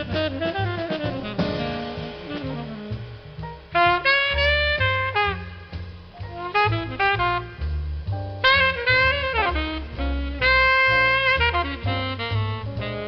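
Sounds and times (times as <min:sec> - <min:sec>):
background music with held chords: 0:00.0 - 0:13.0
bass line: 0:00.0 - 0:13.0.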